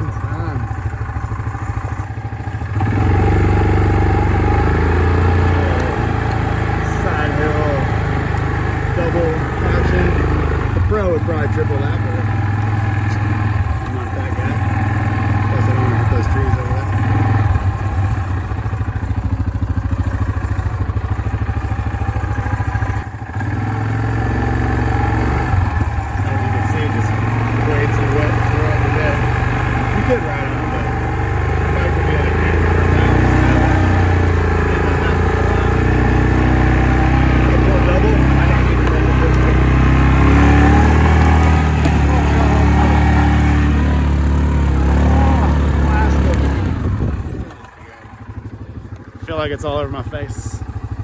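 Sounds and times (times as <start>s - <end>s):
dirt bike engine: 0.0s - 51.0s.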